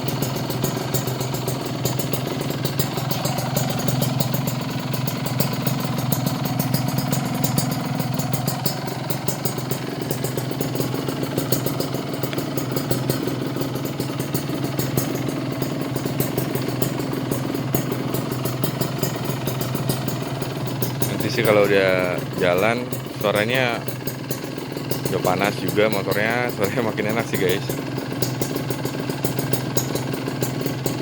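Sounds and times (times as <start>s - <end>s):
two-stroke motorcycle engine idling: 0.0s - 31.0s.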